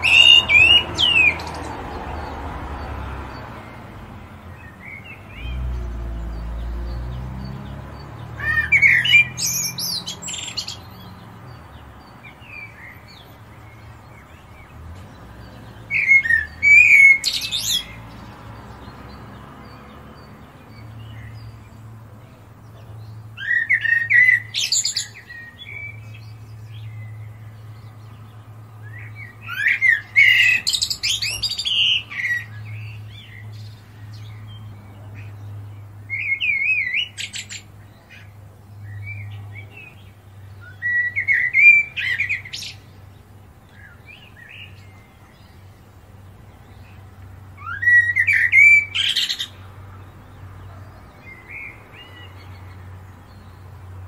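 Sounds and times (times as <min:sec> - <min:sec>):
robin singing: 0:00.0 - 0:54.0.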